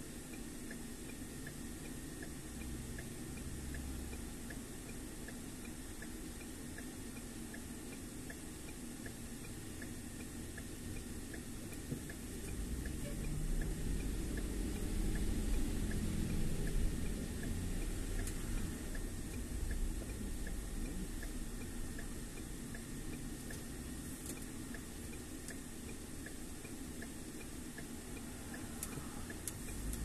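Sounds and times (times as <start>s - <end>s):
car turn signal ticking: 0.0s - 30.0s
road and engine rumble: 0.0s - 30.0s.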